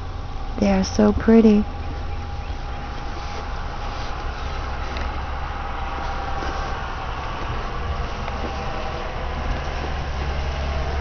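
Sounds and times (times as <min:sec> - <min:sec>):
engine idling: 0:00.0 - 0:11.0
faint steady whine: 0:00.0 - 0:11.0.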